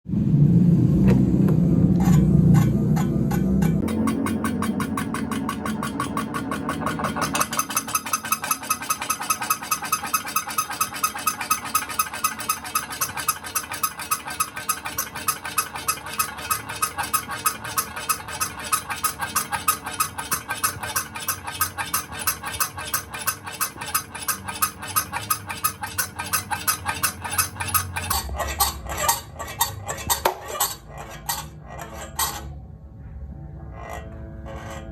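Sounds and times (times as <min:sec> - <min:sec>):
electric fan squeaking: 0:01.3 - 0:32.8, 0:33.5 - 0:34.9.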